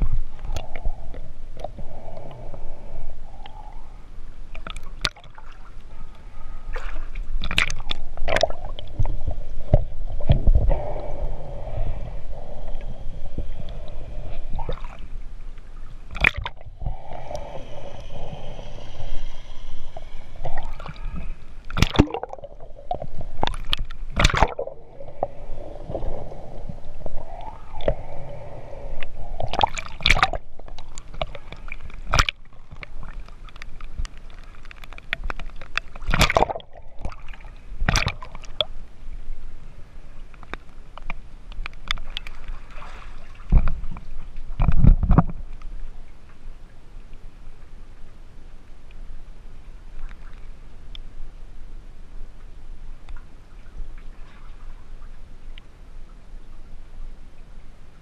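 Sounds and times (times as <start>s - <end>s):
water gurgling and sloshing: 0.0s - 51.6s.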